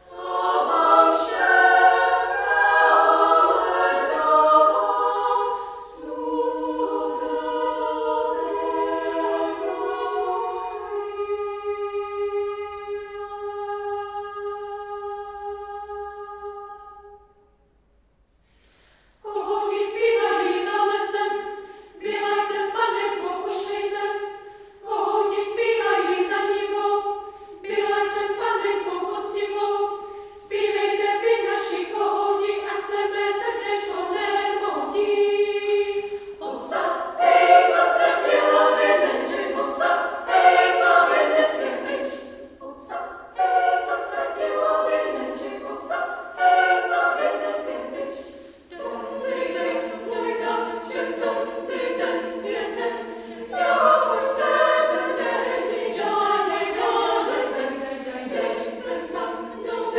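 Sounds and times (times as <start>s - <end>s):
women's choir singing a cappella: 0.0s - 17.6s, 18.6s - 59.9s.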